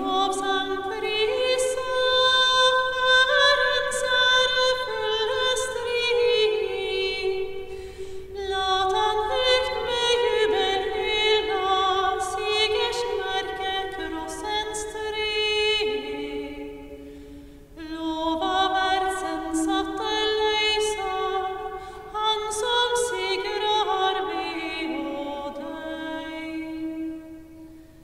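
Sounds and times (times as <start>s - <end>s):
woman singing a hymn unaccompanied: 0.0s - 27.8s.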